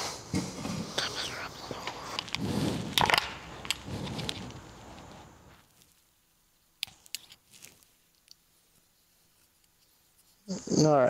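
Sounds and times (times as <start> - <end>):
soft rustle: 0.0 - 11.0.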